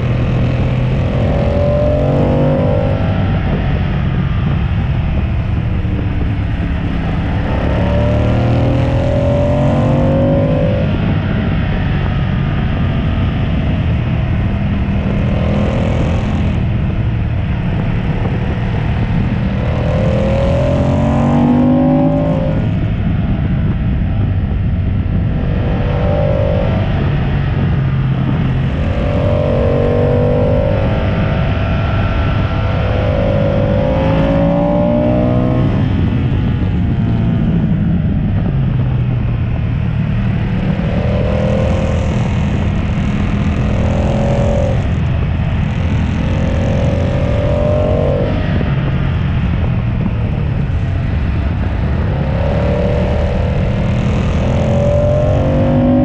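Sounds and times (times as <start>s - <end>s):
motorcycle engine revving: 0.0s - 56.0s
road noise: 0.0s - 56.0s
wind rush: 0.0s - 56.0s.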